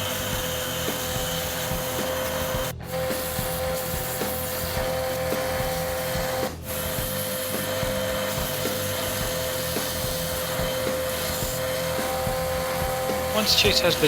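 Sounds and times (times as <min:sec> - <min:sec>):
grinder whining: 0:00.0 - 0:14.0.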